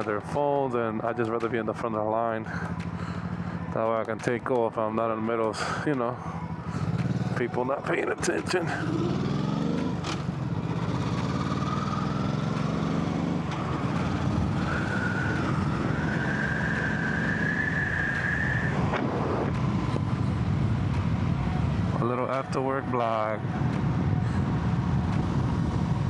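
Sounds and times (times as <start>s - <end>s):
motorcycle engine running: 2.3s - 22.4s, 23.4s - 26.0s.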